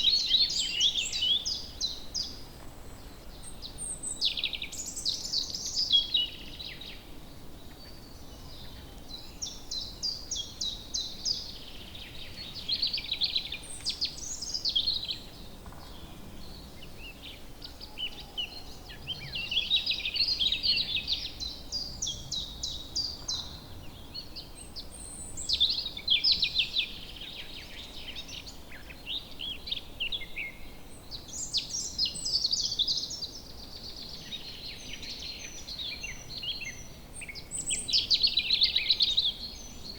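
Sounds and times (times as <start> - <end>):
faint background noise: 0.0 - 39.9.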